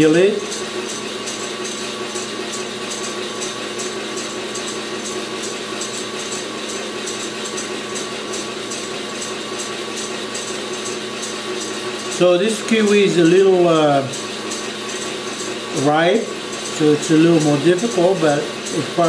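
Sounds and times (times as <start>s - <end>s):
electric mixer humming: 0.0s - 19.0s.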